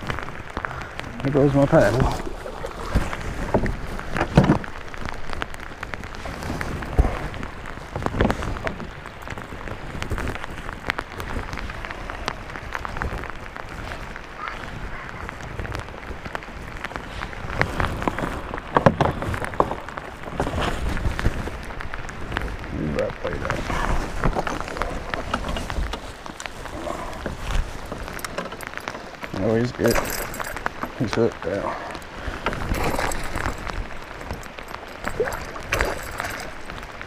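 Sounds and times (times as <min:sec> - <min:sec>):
heavy rain on water: 0:00.0 - 0:37.0
knocks and rustles: 0:01.6 - 0:11.8, 0:15.3 - 0:22.5, 0:23.5 - 0:31.4, 0:32.3 - 0:37.0.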